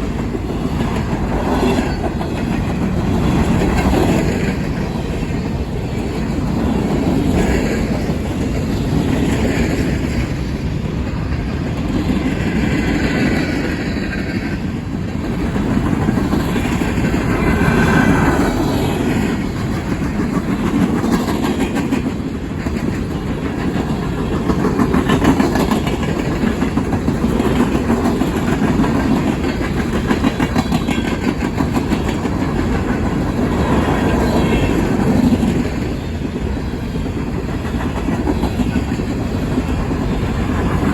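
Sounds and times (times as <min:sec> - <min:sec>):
train rumble: 0:00.0 - 0:40.9
wheels clicking over rail joints: 0:00.0 - 0:40.9.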